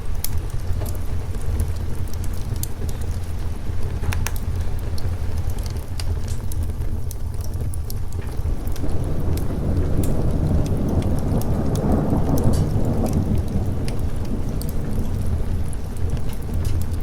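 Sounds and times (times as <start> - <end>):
rolling thunder: 0.0 - 17.0
steady rain: 0.0 - 17.0
wood fire crackling: 0.0 - 17.0.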